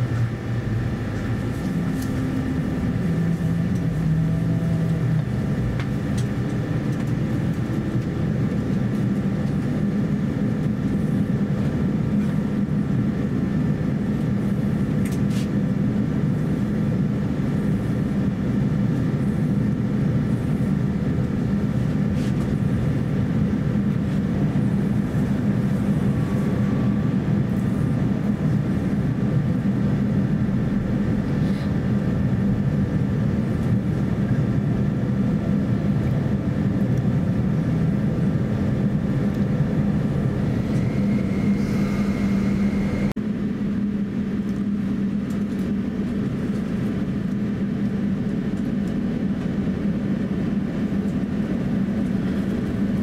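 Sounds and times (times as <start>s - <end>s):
higher whine: 0.0s - 15.2s, 15.8s - 46.1s
aircraft cabin drone: 0.0s - 53.0s
steady whines: 0.0s - 53.0s.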